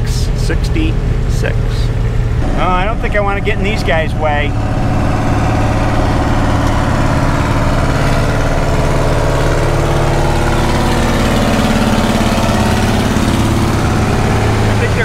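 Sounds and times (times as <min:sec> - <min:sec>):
tractor engines driving past: 0:00.0 - 0:15.0.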